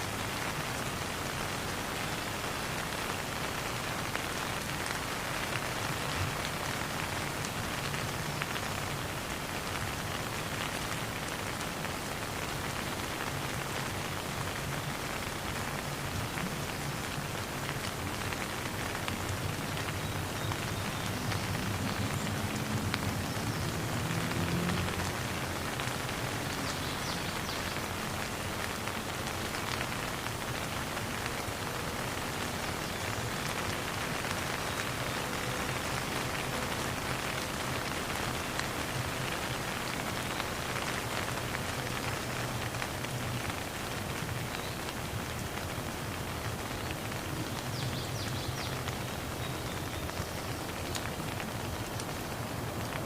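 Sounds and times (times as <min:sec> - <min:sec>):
rain patter: 0:00.0 - 0:53.0.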